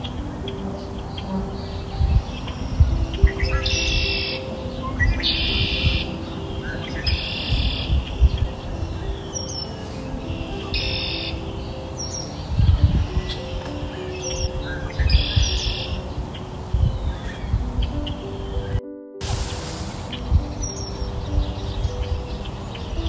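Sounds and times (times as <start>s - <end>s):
bird buzzy trill and chirps: 0.0s - 18.8s
soft music of held notes: 0.0s - 23.0s.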